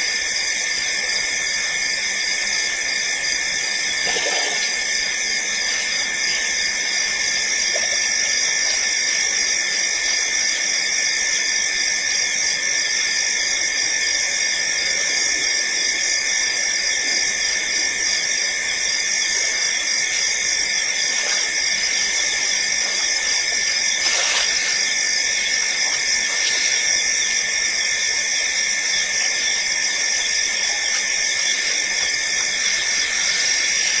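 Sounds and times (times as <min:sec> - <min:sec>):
night insects chorus: 0:00.0 - 0:34.0.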